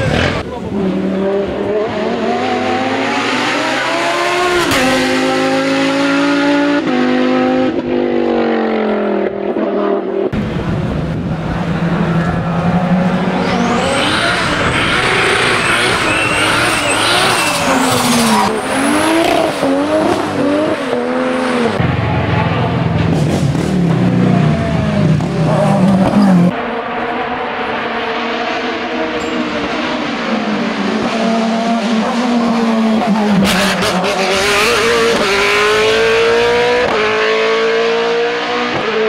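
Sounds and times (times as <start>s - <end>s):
racing car engines at full throttle: 0.0s - 39.0s.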